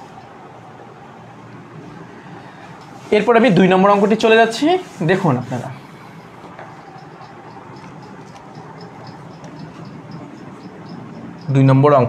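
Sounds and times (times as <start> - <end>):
room ambient hum: 0.0 - 12.0.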